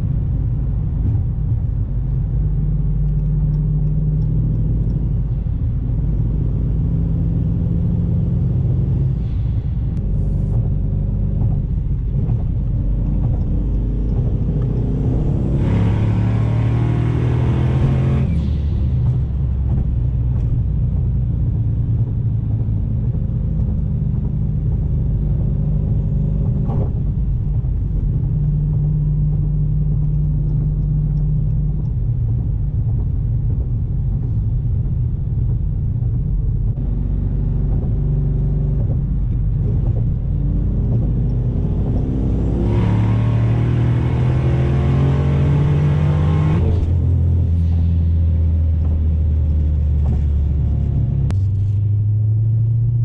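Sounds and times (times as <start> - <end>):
car engine droning: 0.0 - 53.0
road noise inside car: 0.0 - 53.0.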